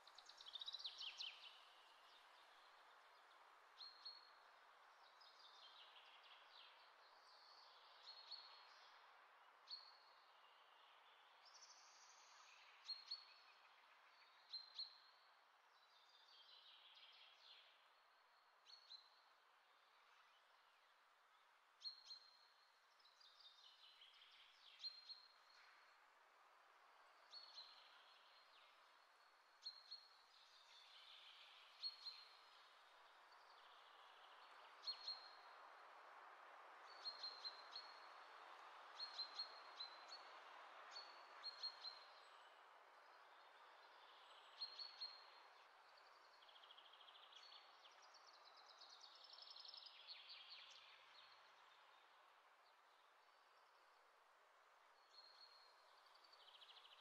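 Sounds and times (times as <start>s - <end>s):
soft steady hiss: 0.0s - 57.0s.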